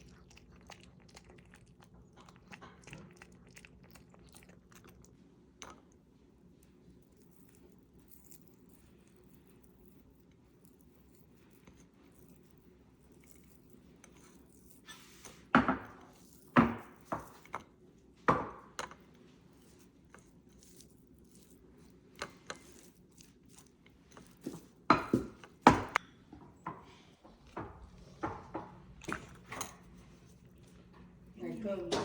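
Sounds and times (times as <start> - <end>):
pet crunching food: 0.0 - 18.1, 19.0 - 26.1, 27.3 - 32.0.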